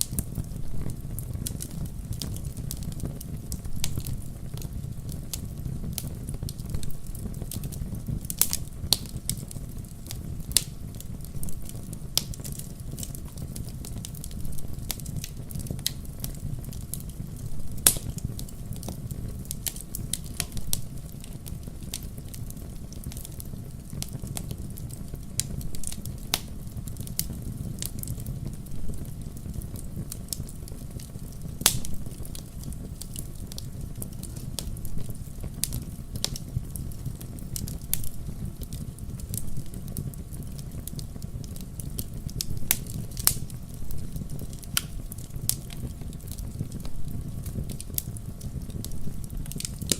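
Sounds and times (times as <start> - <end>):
fire crackling and popping: 0.0 - 49.9
fire flames rumbling: 0.0 - 49.9.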